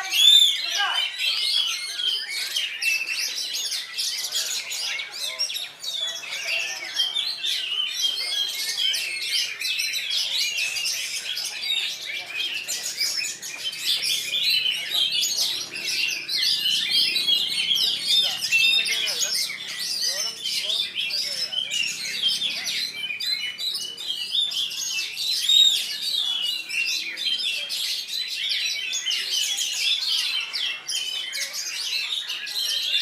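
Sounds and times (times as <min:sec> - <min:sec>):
many birds singing: 0:00.0 - 0:33.0.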